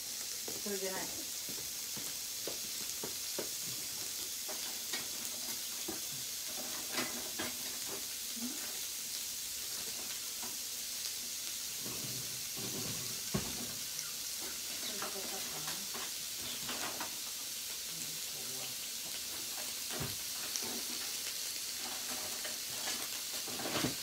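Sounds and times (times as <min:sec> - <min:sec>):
meat sizzling on a grill plate: 0:00.0 - 0:24.0.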